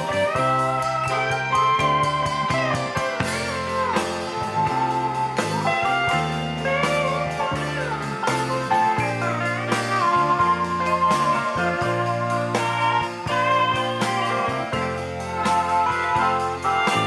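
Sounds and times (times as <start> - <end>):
bass: 0.0 - 17.0
drums: 0.0 - 17.0
slide guitar: 0.0 - 17.0.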